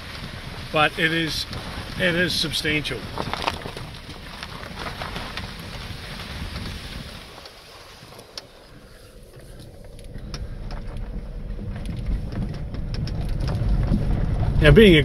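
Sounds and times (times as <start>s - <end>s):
car tyre and engine rumble: 0.0s - 15.0s.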